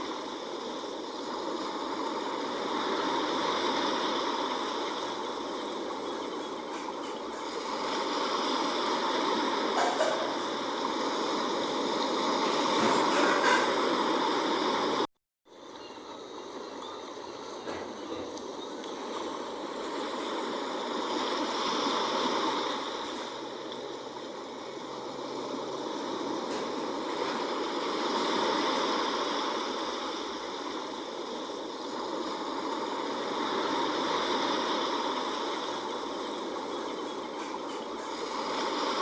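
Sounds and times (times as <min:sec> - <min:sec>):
sea waves washing: 0:00.0 - 0:39.0.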